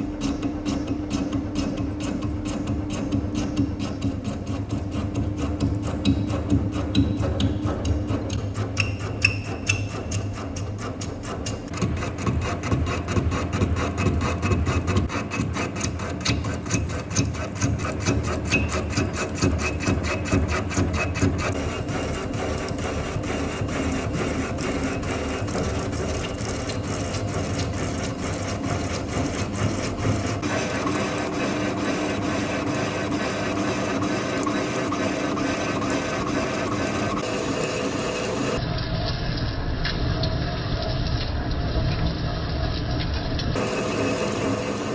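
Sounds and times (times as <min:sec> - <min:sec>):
lathe hum: 0:00.0 - 0:38.6, 0:43.6 - 0:44.9
rapid ticking of cutting insert: 0:00.2 - 0:37.3.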